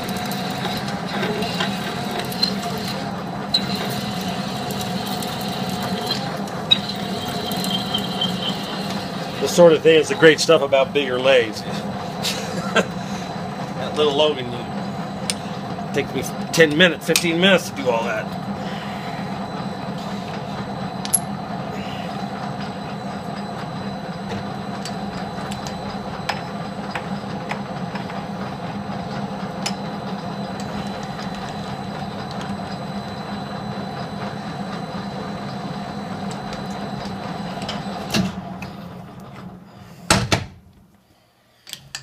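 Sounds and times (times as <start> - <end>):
spindle winding down: 0.0 - 39.4
metal lathe humming and whining: 0.0 - 39.8.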